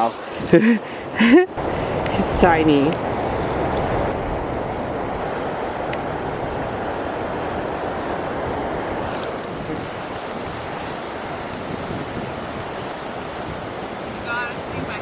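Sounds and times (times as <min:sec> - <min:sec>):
surf washing on beach: 0:00.0 - 0:15.0
wind on microphone: 0:00.0 - 0:15.0.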